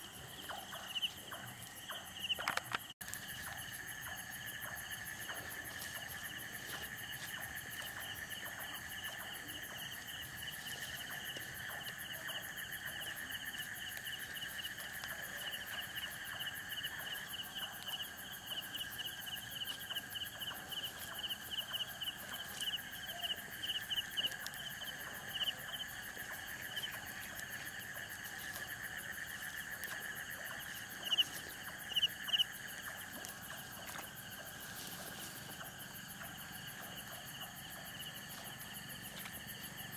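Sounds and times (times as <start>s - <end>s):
insects trilling: 0.0s - 39.9s
loud close insect chirps: 0.0s - 39.9s.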